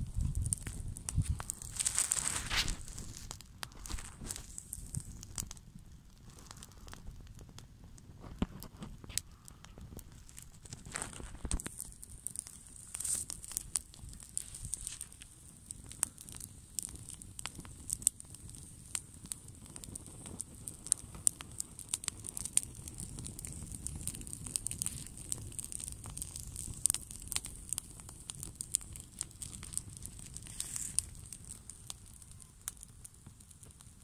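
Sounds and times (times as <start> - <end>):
campfire crackling and popping: 0.0 - 34.0
low fire rumble: 0.0 - 34.0.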